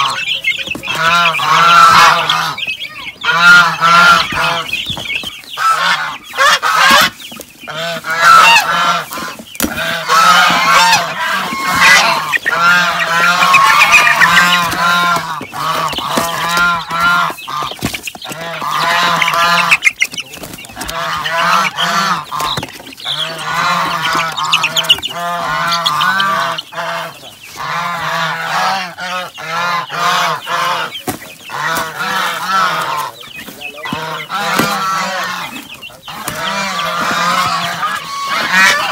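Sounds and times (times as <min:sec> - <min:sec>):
chicks peeping loudly: 0:00.0 - 0:38.9.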